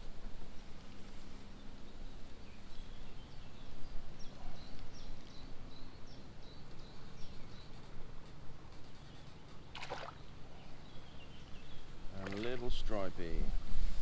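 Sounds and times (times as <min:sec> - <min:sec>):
steady outdoor noise: 0:00.0 - 0:14.0
small bird chirping: 0:00.6 - 0:12.8.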